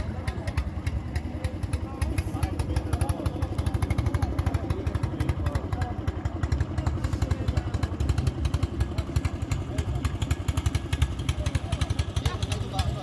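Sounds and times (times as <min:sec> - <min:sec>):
motorboat engine chugging: 0:00.0 - 0:13.0.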